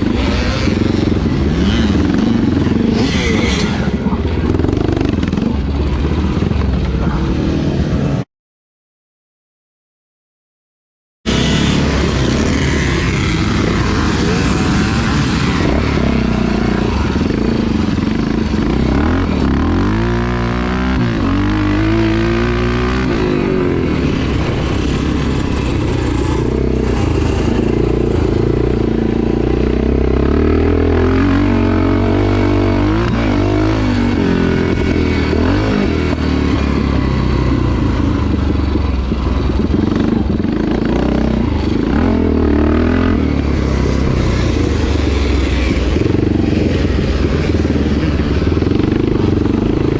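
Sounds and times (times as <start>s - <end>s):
motorcycle engines running hard: 0.0s - 8.2s, 11.3s - 49.9s.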